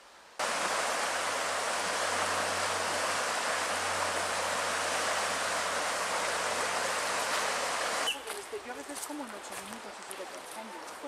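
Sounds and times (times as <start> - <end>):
fast-flowing river rushing: 0.4 - 11.0.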